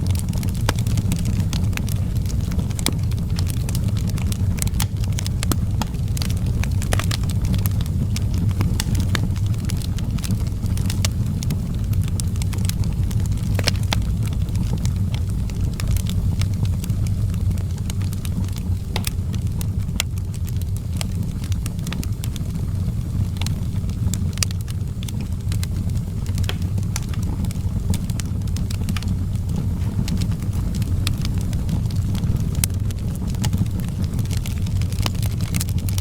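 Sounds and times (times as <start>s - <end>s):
steady low rumble: 0.0s - 36.0s
wood fire crackling and popping: 0.0s - 36.0s.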